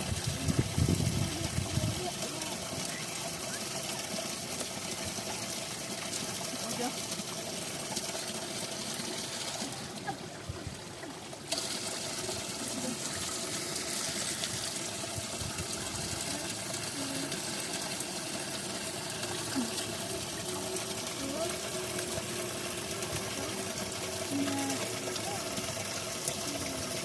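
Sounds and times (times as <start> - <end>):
spring water running: 0.0 - 27.0.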